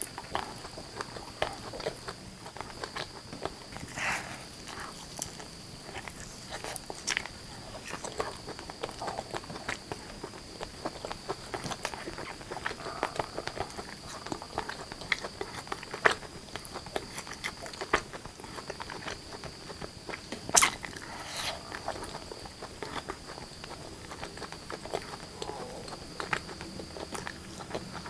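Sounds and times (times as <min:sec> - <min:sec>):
chewing and wet mouth sounds: 0:00.0 - 0:28.0.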